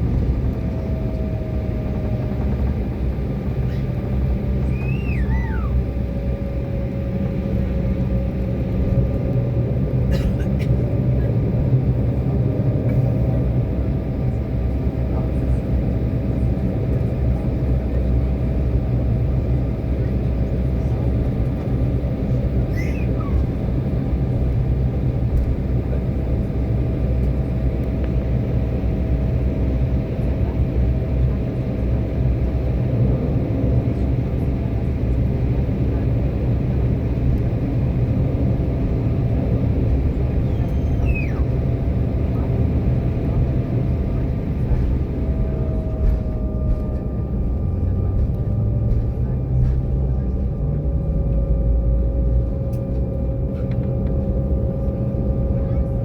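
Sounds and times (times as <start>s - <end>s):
jet engines rumbling in cabin: 0.0s - 56.0s
steady engine whine: 0.0s - 56.0s.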